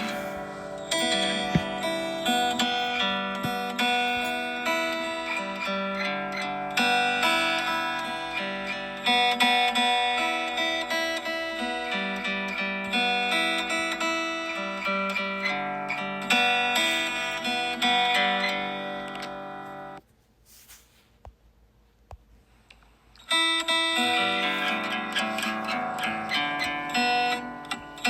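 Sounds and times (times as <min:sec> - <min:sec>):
plucked acoustic guitar music: 0:00.0 - 0:20.0, 0:23.3 - 0:28.0.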